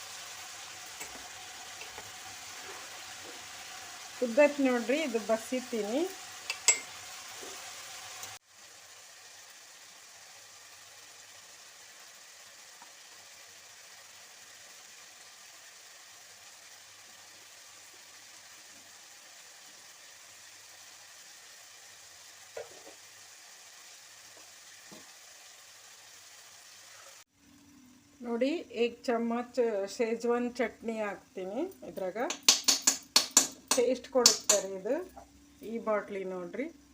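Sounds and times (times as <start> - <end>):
vegetables sizzling in a pan: 0.0 - 36.9.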